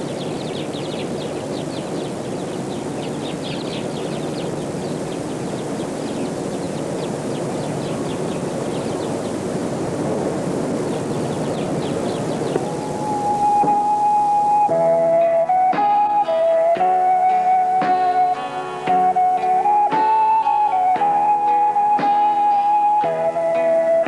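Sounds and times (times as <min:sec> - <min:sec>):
high birdlike chirps: 0:00.0 - 0:09.5, 0:10.8 - 0:24.0
steady rushing noise: 0:00.0 - 0:24.0.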